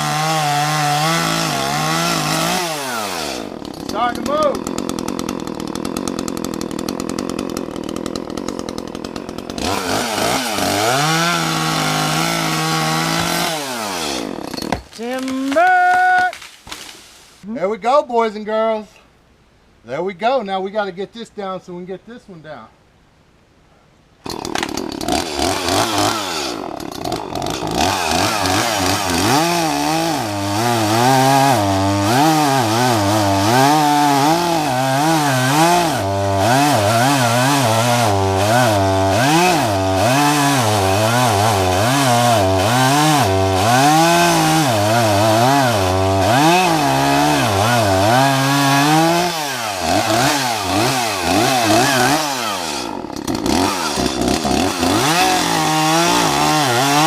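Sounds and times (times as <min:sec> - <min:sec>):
chainsaw cutting tree: 0:00.0 - 0:17.0, 0:24.2 - 0:57.0.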